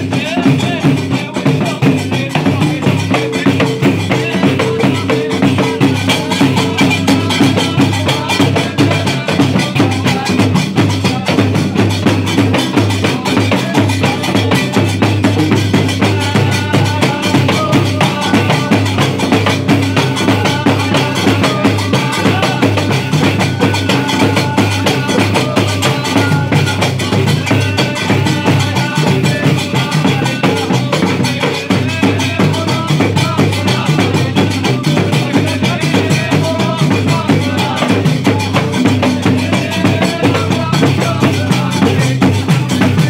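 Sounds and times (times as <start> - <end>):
drums pounding fast rhythm: 0.0 - 43.0
men chanting: 0.0 - 43.0.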